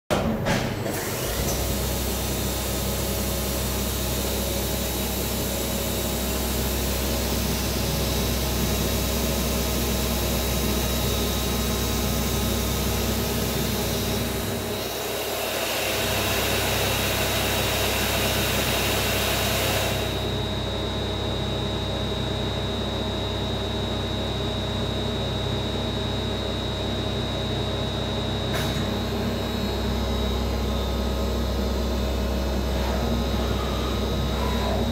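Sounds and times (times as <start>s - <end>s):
machining centre low hum: 0.1s - 34.9s.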